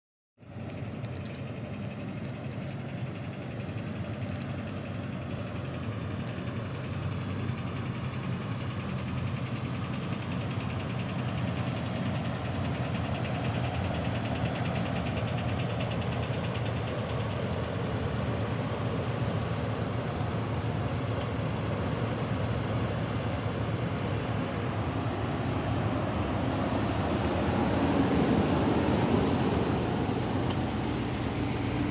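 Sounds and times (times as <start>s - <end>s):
engine running with fast knocking: 3.7s - 31.9s.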